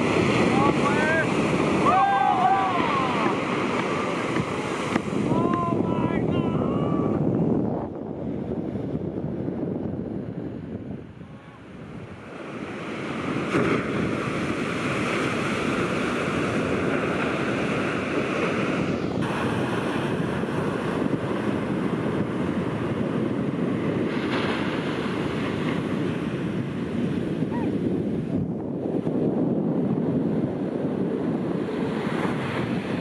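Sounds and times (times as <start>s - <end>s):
waves crashing on beach: 0.0s - 7.6s, 8.2s - 33.0s
wind buffeting microphone: 0.0s - 33.0s.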